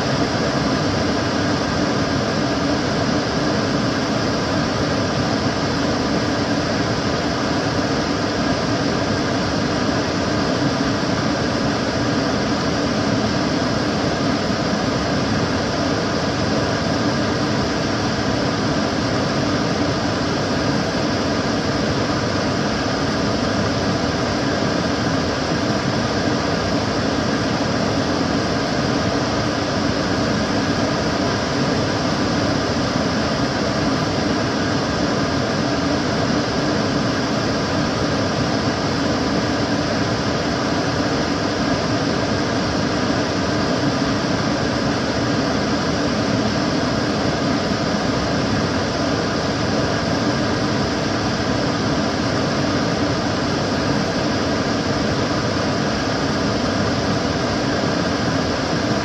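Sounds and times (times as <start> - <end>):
extractor fan running: 0.0 - 59.0.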